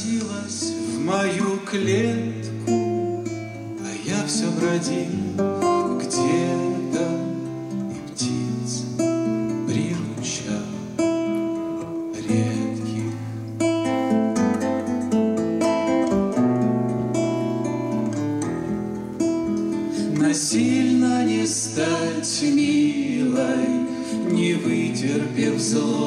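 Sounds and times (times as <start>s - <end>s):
acoustic guitars playing: 0.0s - 26.0s.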